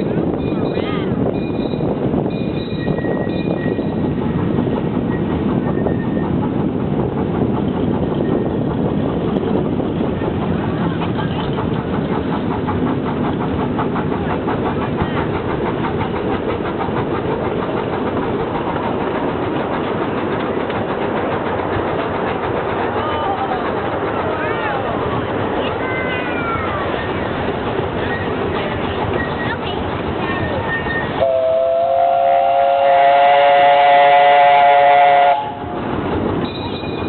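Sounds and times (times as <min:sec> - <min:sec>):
wheels on rails: 0:00.0 - 0:31.3, 0:32.1 - 0:37.0
steam locomotive chuffing: 0:00.0 - 0:37.0.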